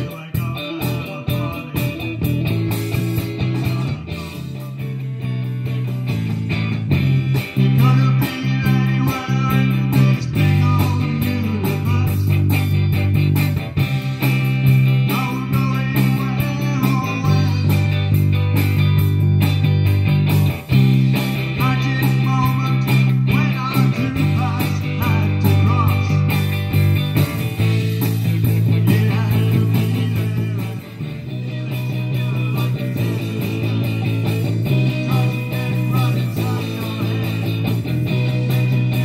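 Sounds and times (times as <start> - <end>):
bass guitar: 0.0 - 39.0
drum kit: 0.0 - 39.0
electric guitar: 0.0 - 39.0.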